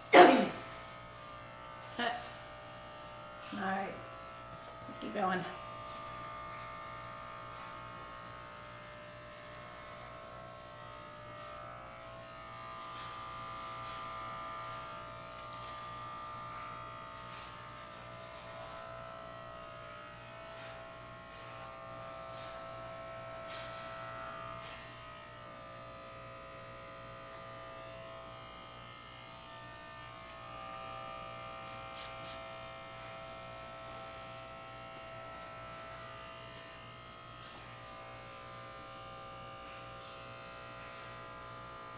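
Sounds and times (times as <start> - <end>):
electric hair clippers buzzing: 0.0 - 41.9.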